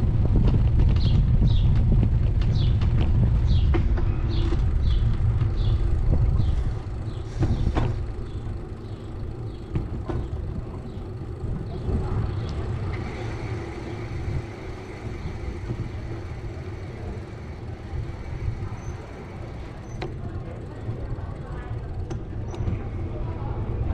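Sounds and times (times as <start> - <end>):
low rumble: 0.0 - 23.9.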